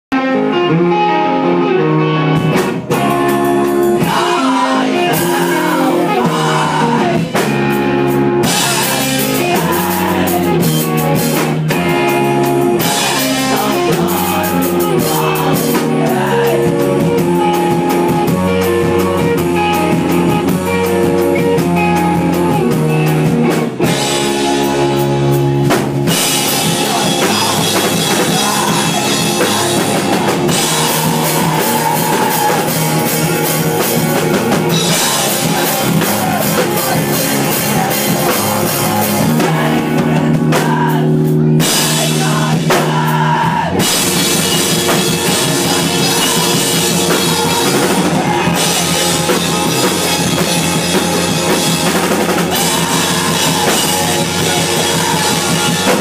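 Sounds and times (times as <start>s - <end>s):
drum kit: 0.1s - 56.0s
electric guitar: 0.1s - 56.0s
person singing into microphone: 3.9s - 7.5s, 8.4s - 22.8s, 26.1s - 56.0s.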